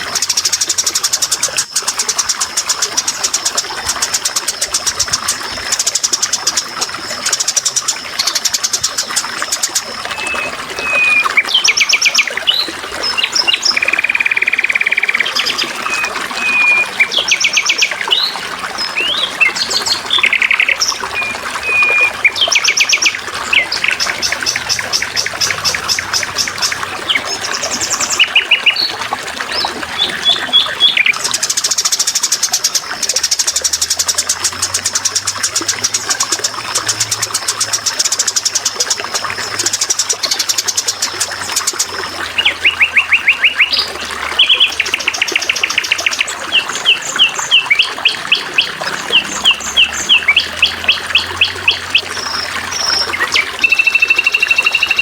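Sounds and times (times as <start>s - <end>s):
songbirds chirping and trilling: 0.0s - 55.0s
water trickling: 0.0s - 55.0s.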